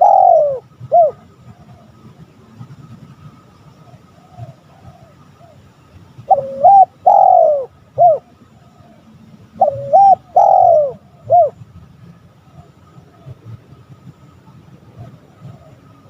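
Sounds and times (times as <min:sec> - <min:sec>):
dove calling: 0:00.0 - 0:02.5, 0:03.2 - 0:11.6, 0:12.4 - 0:16.0.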